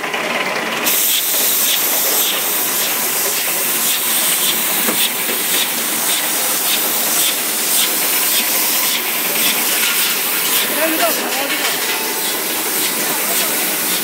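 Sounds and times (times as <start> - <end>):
hiss of air and water spray: 0.9 - 14.0.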